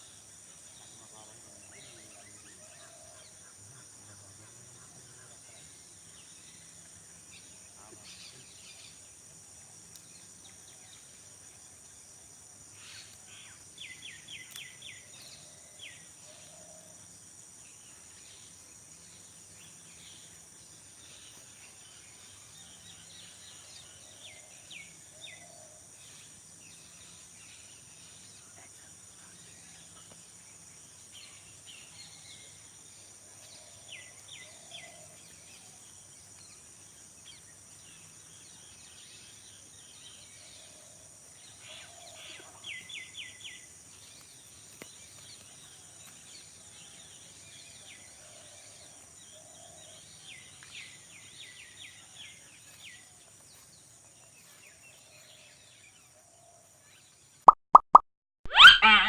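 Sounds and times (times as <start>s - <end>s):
crickets and insects trilling: 0.0s - 56.8s.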